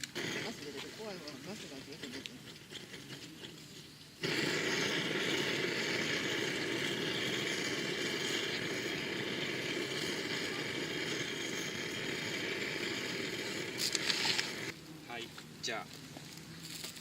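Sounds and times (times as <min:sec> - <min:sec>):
gas burner flame hissing: 0:00.0 - 0:15.2.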